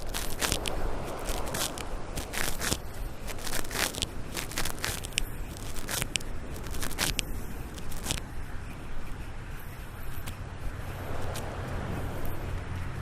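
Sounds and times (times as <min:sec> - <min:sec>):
footsteps crunching on sand: 0:00.0 - 0:13.0.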